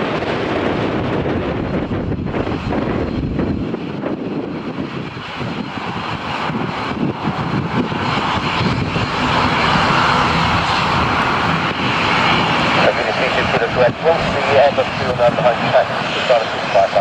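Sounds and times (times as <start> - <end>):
aircraft engines rushing: 0.0 - 17.0.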